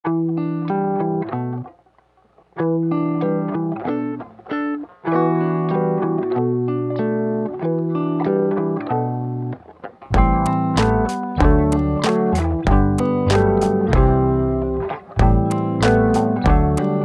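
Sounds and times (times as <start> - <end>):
guitar plucked melody: 0.0 - 17.0.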